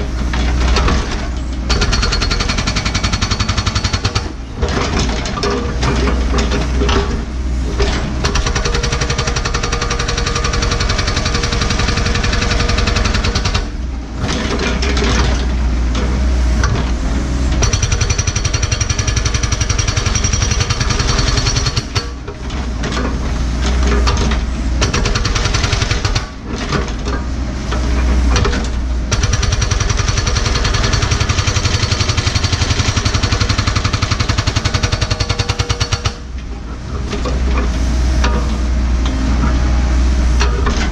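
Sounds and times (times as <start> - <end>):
hydraulic breaker pounding rock: 0.0 - 39.8
excavator engine running: 0.0 - 40.9.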